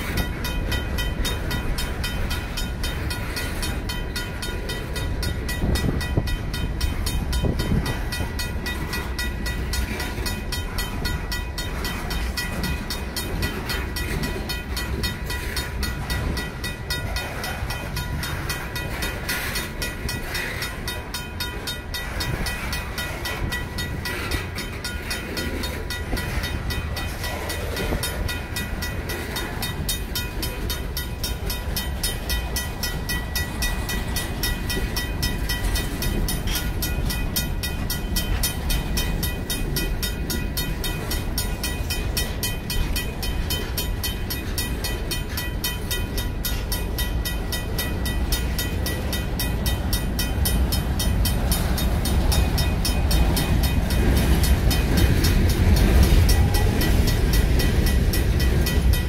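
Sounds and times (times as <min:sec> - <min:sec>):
crossing bell ringing: 0:00.0 - 0:59.0
train wheels rumbling over rails: 0:00.0 - 0:59.0.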